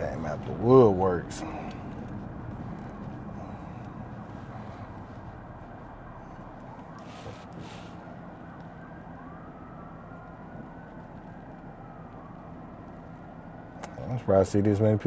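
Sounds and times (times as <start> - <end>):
distant siren wailing: 0.0 - 15.0
road and engine rumble: 0.0 - 15.0.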